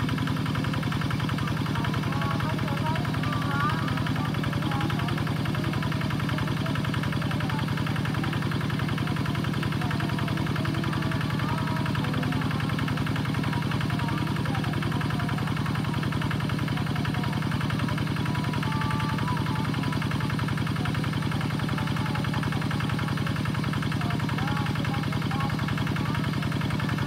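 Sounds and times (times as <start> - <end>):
hand tractor engine running: 0.0 - 27.0.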